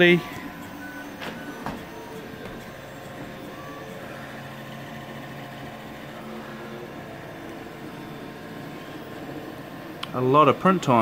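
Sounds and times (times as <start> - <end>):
three d printers whirring: 0.0 - 11.0.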